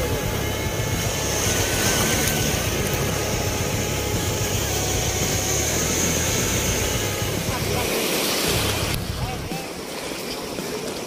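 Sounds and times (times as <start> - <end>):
outboard motor droning: 0.0 - 11.0
surf over shallows: 0.0 - 11.0.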